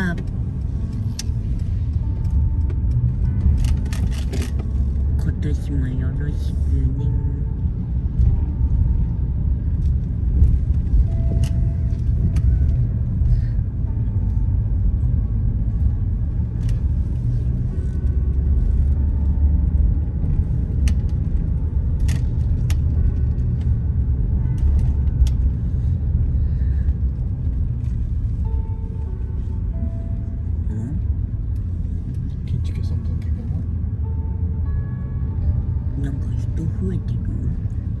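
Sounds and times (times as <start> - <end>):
car engine and tyres rumbling: 0.0 - 38.0.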